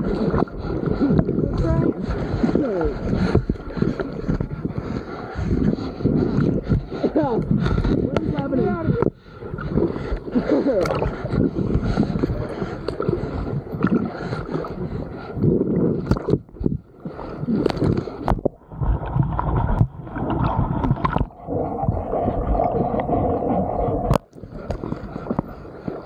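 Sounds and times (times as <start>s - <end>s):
water splashing and gurgling: 0.0s - 26.0s.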